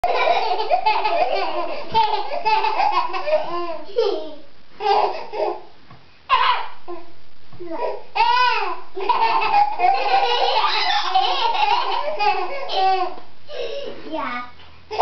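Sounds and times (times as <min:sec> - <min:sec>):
baby and child laughing: 0:00.0 - 0:05.6, 0:07.7 - 0:14.1.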